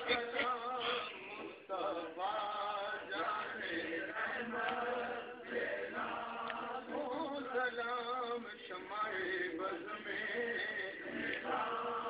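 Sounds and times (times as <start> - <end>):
men chanting devotional verse: 0.0 - 12.0.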